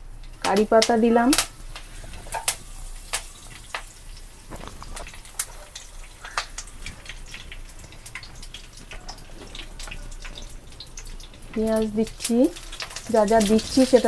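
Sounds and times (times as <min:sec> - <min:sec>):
faint sizzle: 0:00.0 - 0:14.0
spices crackling in hot oil: 0:00.0 - 0:14.0.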